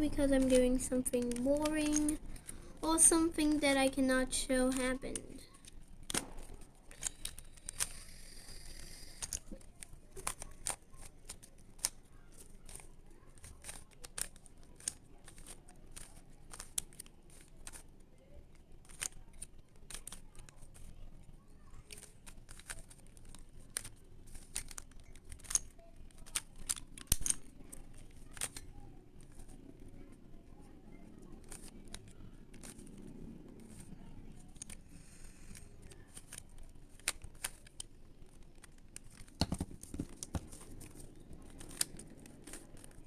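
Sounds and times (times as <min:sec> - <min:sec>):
plastic puzzle clicking: 0:00.1 - 0:03.8, 0:04.7 - 0:17.9, 0:18.5 - 0:21.0, 0:21.8 - 0:29.6, 0:31.3 - 0:43.0.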